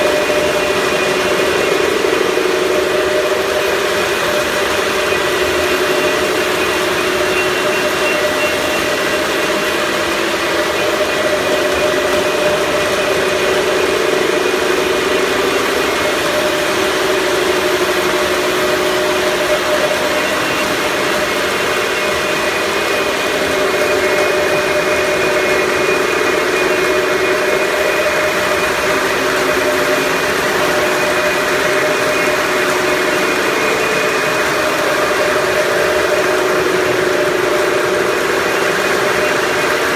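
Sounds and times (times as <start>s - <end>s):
machine drone: 0.0s - 39.9s.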